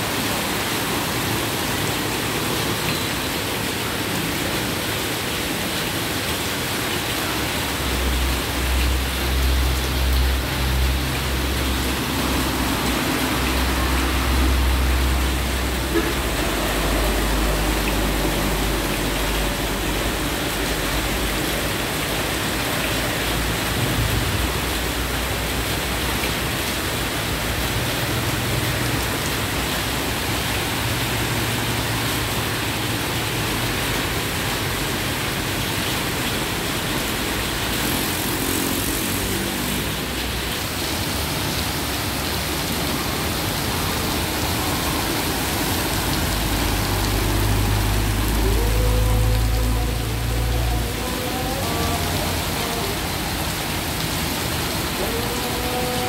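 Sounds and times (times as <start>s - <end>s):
heavy rain hissing: 0.0s - 56.0s
vehicles driving through water: 0.0s - 56.0s.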